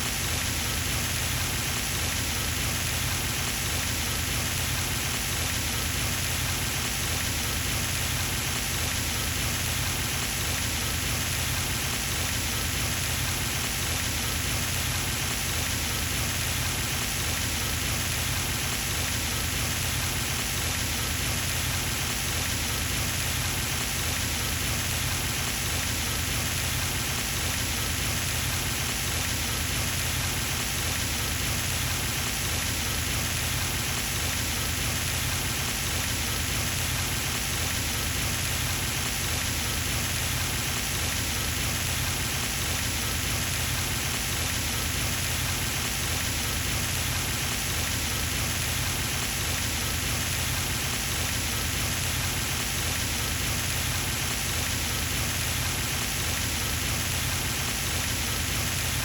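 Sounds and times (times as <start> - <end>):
pond fountain splashing: 0.1 - 59.0.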